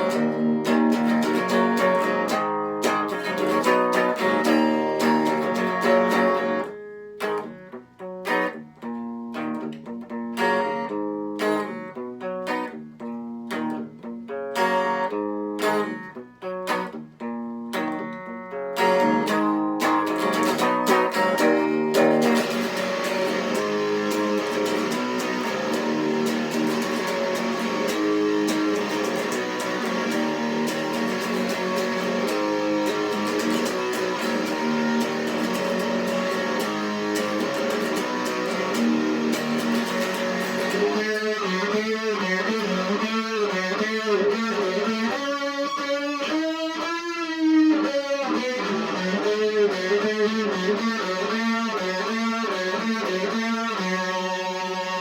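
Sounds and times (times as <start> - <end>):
electric guitar through amplifier: 0.0 - 55.0.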